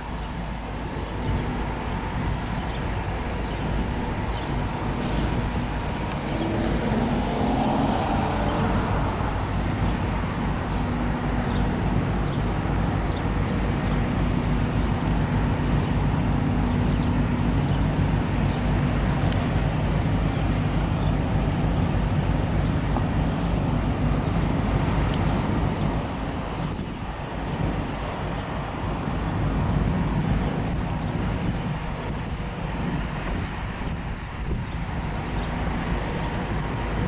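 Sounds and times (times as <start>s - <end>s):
low engine drone: 0.0s - 37.0s
road traffic hum: 0.0s - 37.0s.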